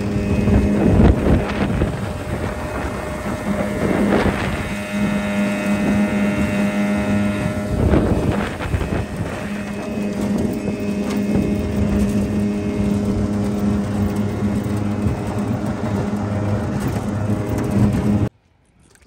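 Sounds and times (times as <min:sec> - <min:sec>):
water rushing: 0:00.0 - 0:18.3
outboard motor running: 0:00.0 - 0:19.0
wind: 0:00.0 - 0:19.0.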